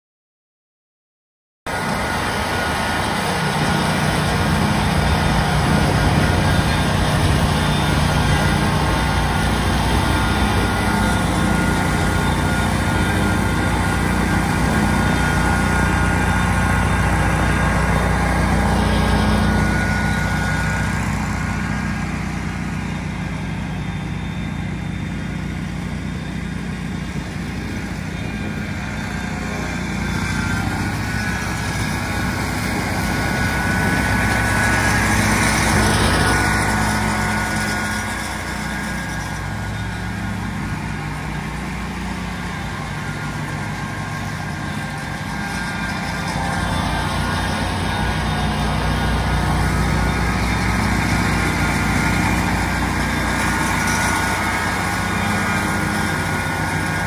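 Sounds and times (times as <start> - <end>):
mower running: 1.7 - 57.0.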